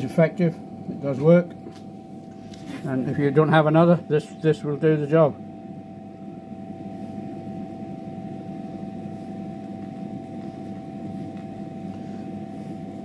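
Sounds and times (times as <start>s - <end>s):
mechanical hum with whine: 0.0s - 13.0s.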